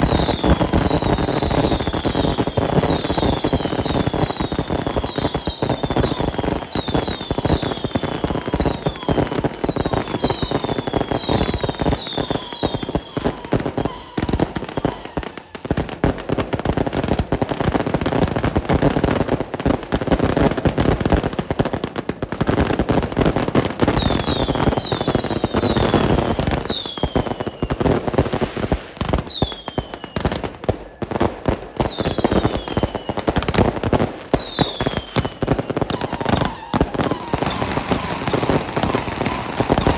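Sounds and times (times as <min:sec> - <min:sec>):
fireworks crackling bangs: 0:00.0 - 0:39.9
whistling fireworks: 0:00.0 - 0:39.9.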